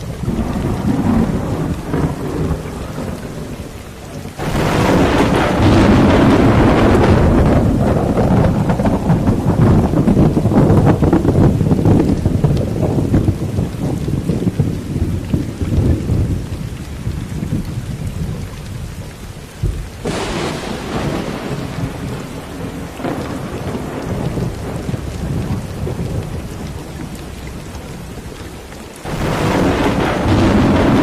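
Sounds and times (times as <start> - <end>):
low rumbling thunder: 0.0 - 31.0
steady rain hiss: 0.0 - 31.0.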